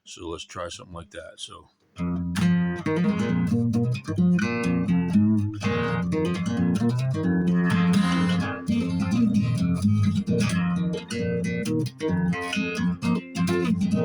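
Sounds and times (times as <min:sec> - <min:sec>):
fingerpicked guitar: 0:02.0 - 0:14.0.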